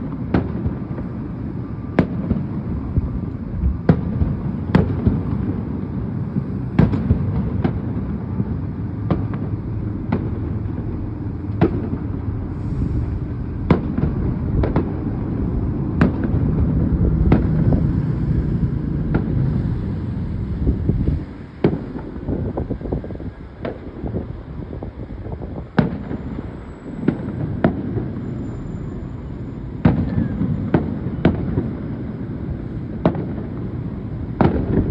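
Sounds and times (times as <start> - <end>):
fireworks booms and bangs: 0.0 - 34.9.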